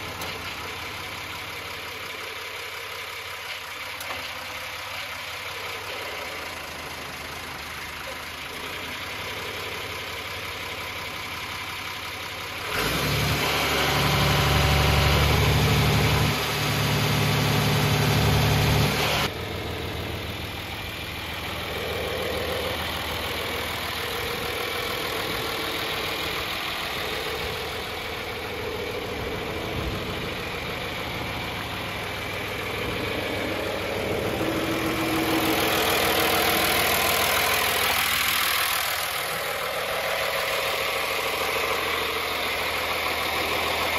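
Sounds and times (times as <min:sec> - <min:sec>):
diesel tractor engine idling: 0:00.0 - 0:43.9.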